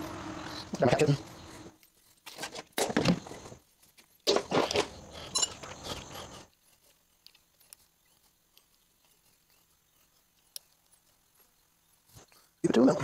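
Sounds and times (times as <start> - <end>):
handling rustling and clunking: 0.4 - 12.4.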